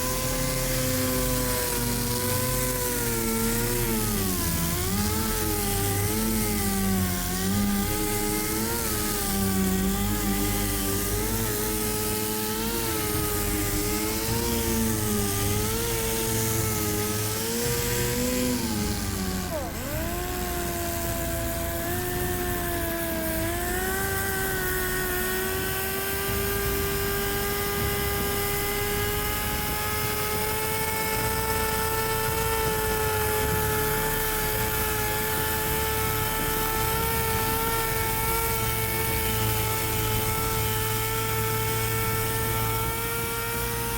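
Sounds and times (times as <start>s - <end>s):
power tool motor whining: 0.0s - 43.9s.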